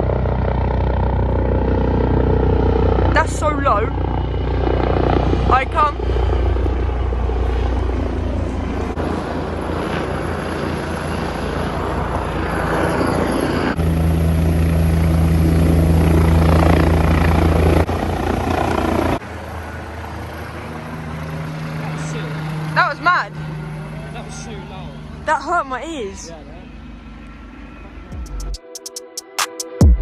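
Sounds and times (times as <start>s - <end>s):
helicopter flying low overhead: 0.0s - 28.7s.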